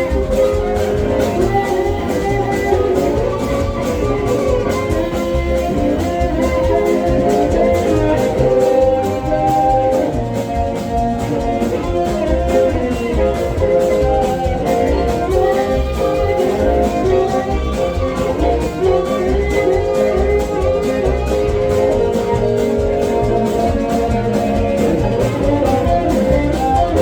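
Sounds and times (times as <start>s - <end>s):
blues guitar: 0.0s - 27.0s
steady drum beat: 0.0s - 27.0s.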